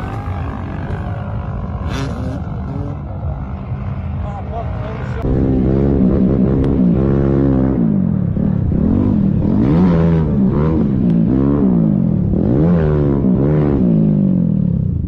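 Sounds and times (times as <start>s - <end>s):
dirt bike engine revving: 0.0s - 3.5s, 5.2s - 14.4s.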